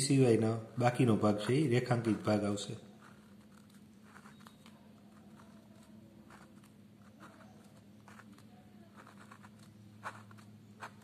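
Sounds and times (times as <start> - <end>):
low steady hum: 0.0 - 11.0
pen scratching on paper: 2.0 - 11.0.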